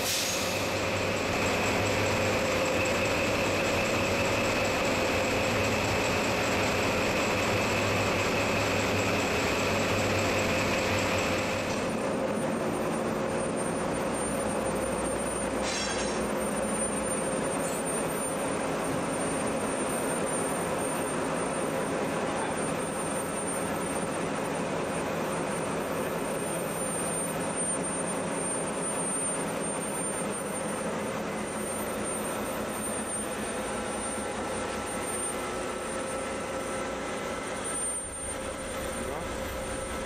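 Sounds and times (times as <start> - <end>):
engine-room machinery drone: 0.0 - 40.0
high machinery whine: 0.0 - 40.0.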